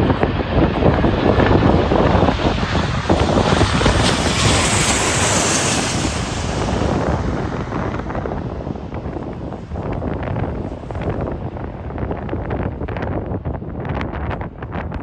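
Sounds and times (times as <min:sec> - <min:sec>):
jet airliner passing overhead: 0:00.0 - 0:15.0
wind buffeting microphone: 0:00.0 - 0:15.0.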